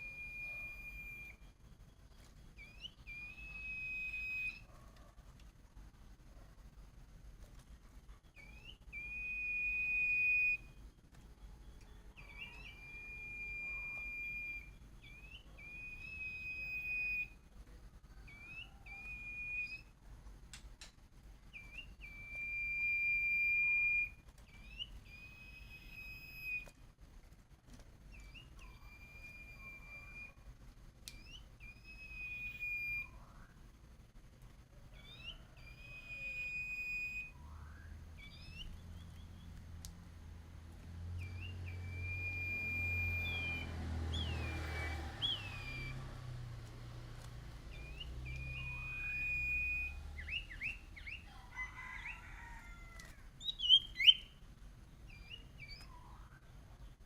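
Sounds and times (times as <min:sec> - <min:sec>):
songbird whistling song: 0:00.0 - 0:05.1, 0:08.2 - 0:17.4, 0:18.1 - 0:20.0, 0:21.4 - 0:26.8, 0:28.1 - 0:33.6, 0:34.9 - 0:40.0, 0:41.0 - 0:46.4, 0:47.6 - 0:57.0.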